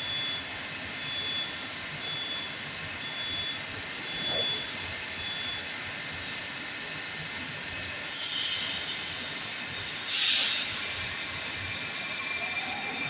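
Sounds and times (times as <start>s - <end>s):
train humming at platform: 0.0s - 13.0s.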